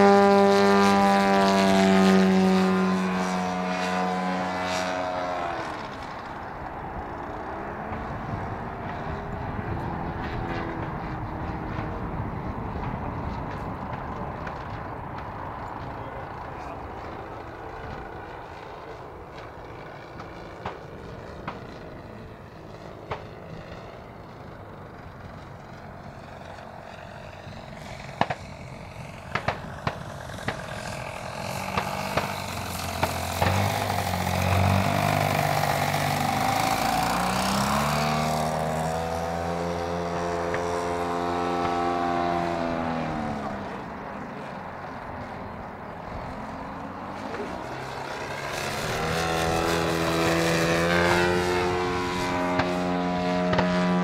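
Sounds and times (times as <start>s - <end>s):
model plane engine droning: 0.0s - 54.0s.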